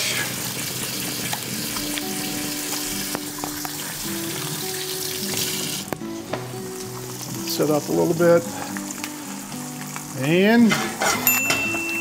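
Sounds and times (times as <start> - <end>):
egg sizzling in butter: 0.0 - 12.0
background music with held notes: 0.3 - 12.0.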